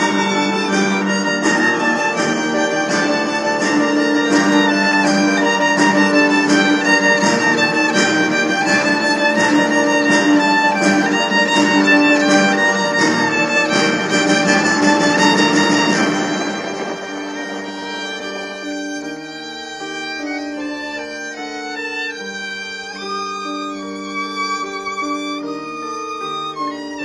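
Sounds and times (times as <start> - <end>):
low held notes: 0.0 - 21.7
violin melody: 0.0 - 27.0.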